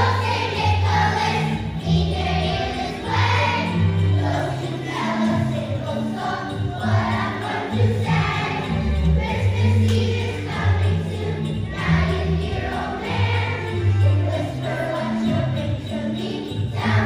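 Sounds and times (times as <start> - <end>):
children's choir singing: 0.0 - 17.0
musical accompaniment with bass line: 0.0 - 17.0.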